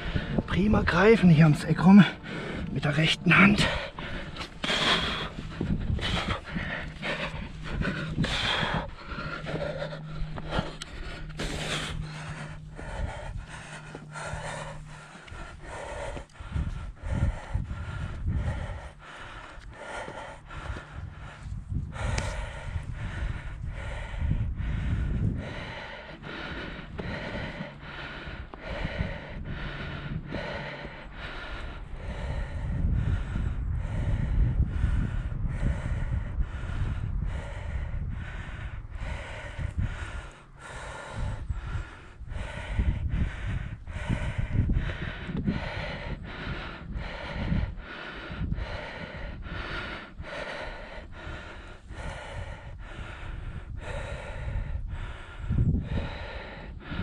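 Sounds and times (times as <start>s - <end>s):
person breathing hard: 0.0s - 57.0s
wind rumbling on microphone: 0.0s - 57.0s.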